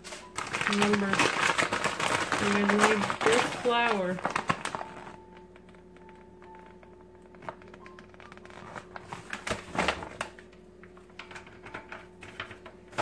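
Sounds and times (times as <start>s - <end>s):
paper bag crinkling: 0.0s - 13.0s.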